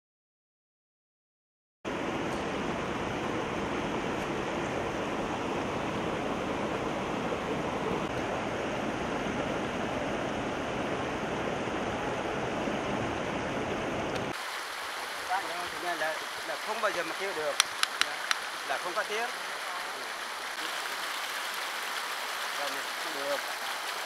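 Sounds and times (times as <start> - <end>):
stream rushing over stones: 1.9 - 24.0.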